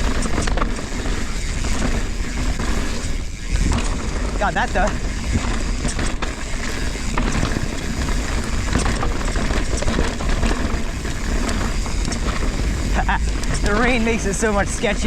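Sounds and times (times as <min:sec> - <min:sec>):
bike knocking and rattling on rocks: 0:00.0 - 0:15.0
wind rumble on microphone: 0:00.0 - 0:15.0.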